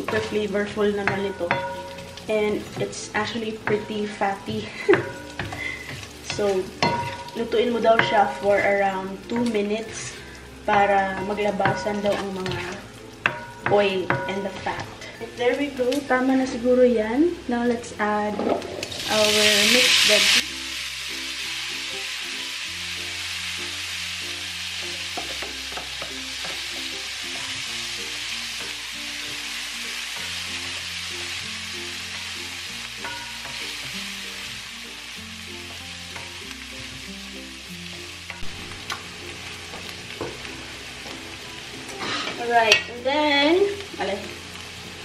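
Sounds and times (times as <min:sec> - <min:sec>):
soft background music: 0:00.0 - 0:45.0
vegetables sizzling in oil: 0:00.0 - 0:45.0.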